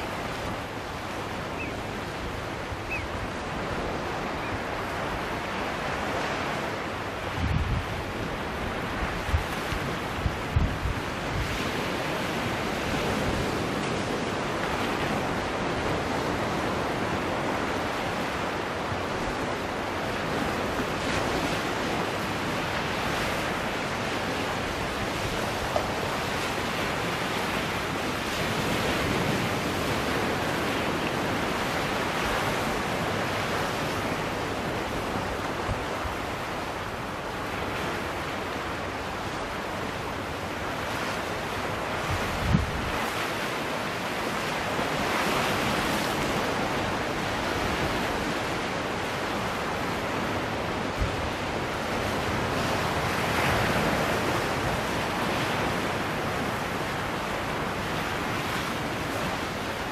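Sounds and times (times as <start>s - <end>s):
sea surf washing among rocks: 0.0s - 59.9s.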